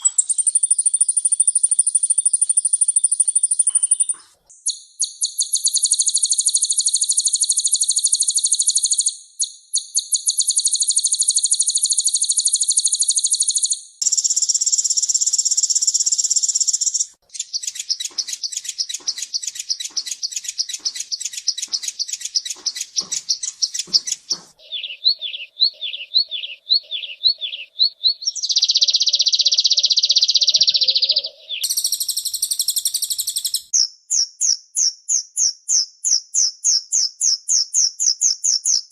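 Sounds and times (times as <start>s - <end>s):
bird trills and chattering: 0.0s - 9.1s, 9.8s - 35.8s.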